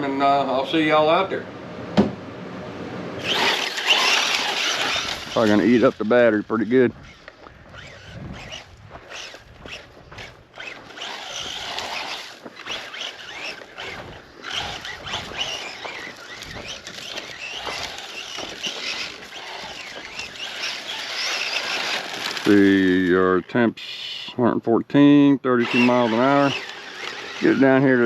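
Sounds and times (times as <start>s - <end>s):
electric rc truck driving: 3.2s - 23.7s, 25.0s - 28.0s
tires churning sand: 3.2s - 28.0s.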